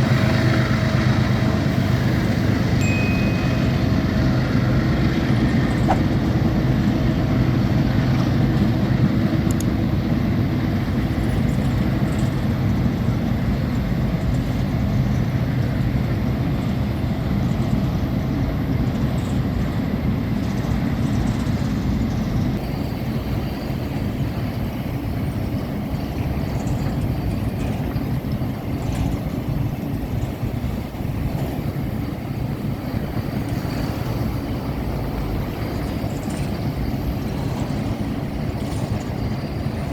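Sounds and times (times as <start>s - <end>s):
diesel locomotive engine drone: 0.0s - 39.9s
train rolling rumble: 0.0s - 39.9s.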